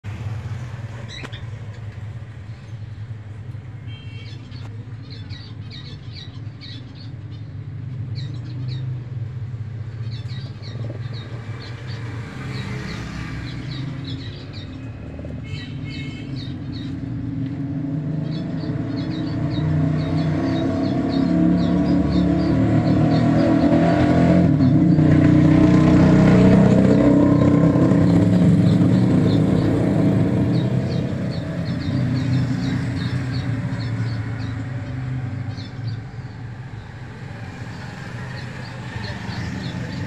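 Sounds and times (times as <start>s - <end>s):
small birds chirping: 0.4s - 40.0s.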